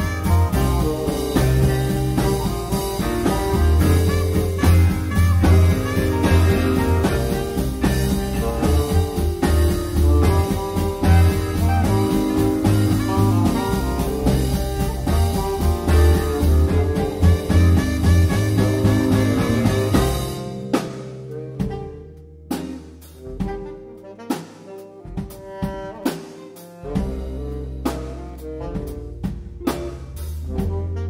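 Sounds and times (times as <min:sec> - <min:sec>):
deep bass line: 0:00.0 - 0:24.1, 0:26.8 - 0:31.0
band playing groovy tune: 0:00.0 - 0:31.0.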